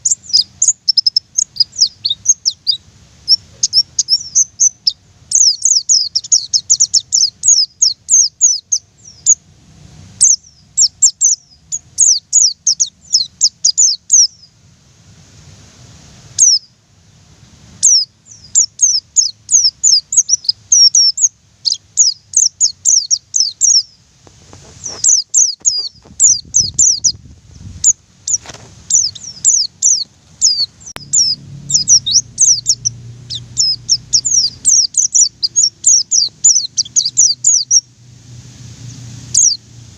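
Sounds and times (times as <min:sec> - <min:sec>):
bird singing high thin chirps: 0:00.0 - 0:09.5, 0:10.2 - 0:14.6, 0:16.4 - 0:16.8, 0:17.8 - 0:24.0, 0:24.8 - 0:37.9, 0:38.8 - 0:39.7.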